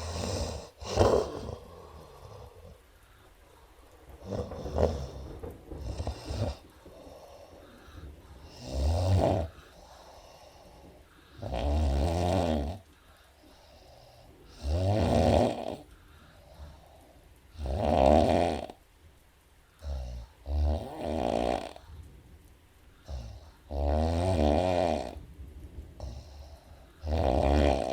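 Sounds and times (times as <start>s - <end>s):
woman snoring: 0.0s - 18.8s, 19.8s - 22.0s, 23.0s - 25.3s, 26.0s - 27.9s.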